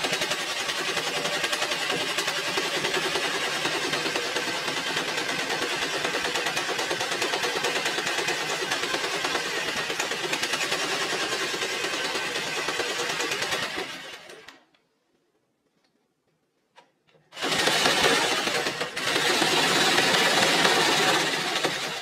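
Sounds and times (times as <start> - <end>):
jigsaw sawing through steel tube: 0.0 - 14.6, 17.4 - 22.0.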